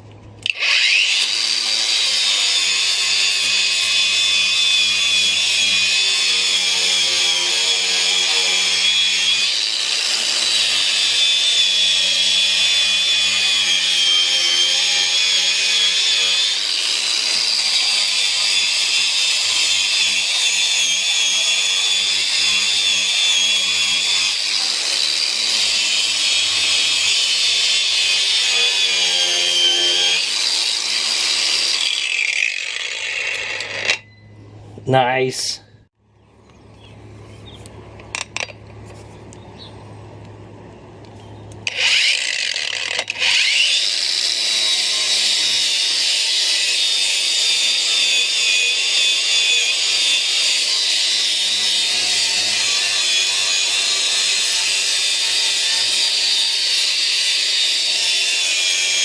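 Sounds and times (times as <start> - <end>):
angle grinder whining: 0.4 - 34.4, 41.6 - 59.0.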